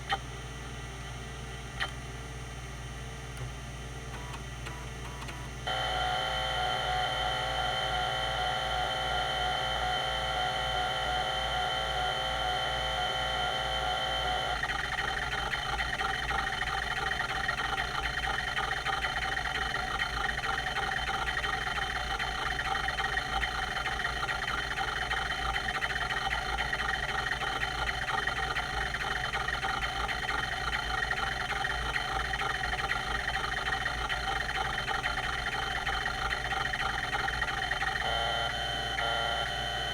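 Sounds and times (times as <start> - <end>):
hard drive whine: 0.0 - 39.9
rapid hard drive ticking: 3.4 - 39.9.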